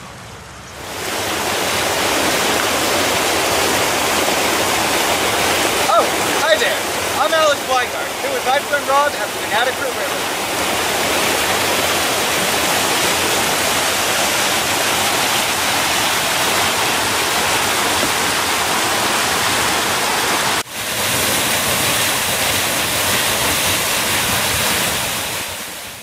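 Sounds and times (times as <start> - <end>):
river water rushing over rocks: 0.7 - 26.0.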